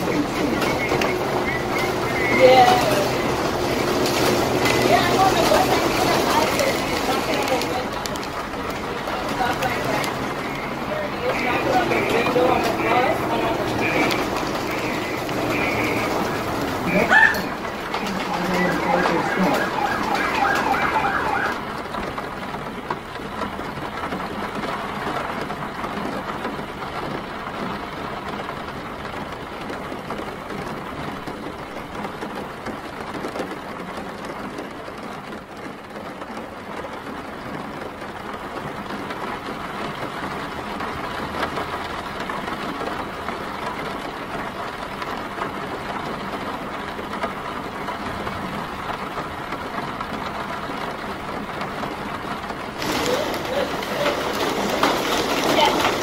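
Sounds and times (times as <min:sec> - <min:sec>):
passing traffic: 0:00.0 - 0:56.0
rain on street: 0:00.0 - 0:56.0.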